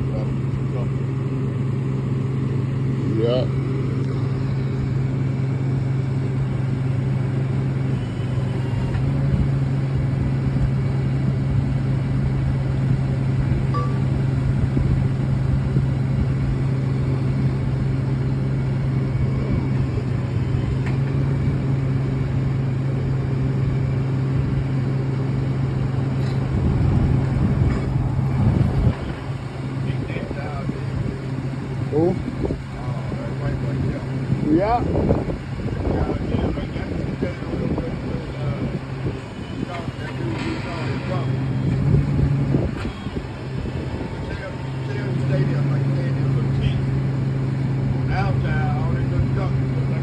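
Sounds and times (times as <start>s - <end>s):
vehicle engine idling: 0.0s - 50.0s.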